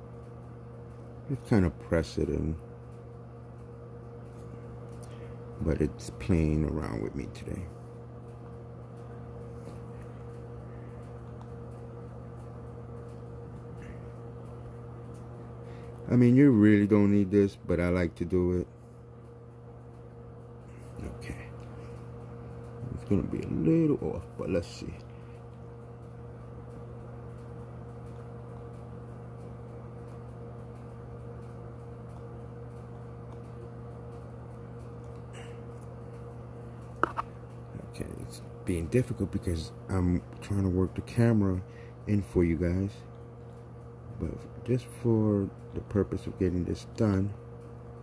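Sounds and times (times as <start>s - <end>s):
electrical hum of appliance: 0.0s - 48.0s.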